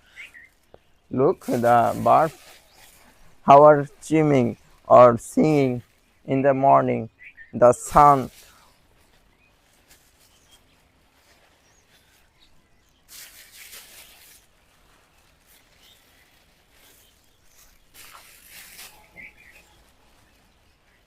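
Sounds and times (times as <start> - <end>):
faint birds chirping: 0.0 - 21.0
rustling noise: 0.0 - 21.0.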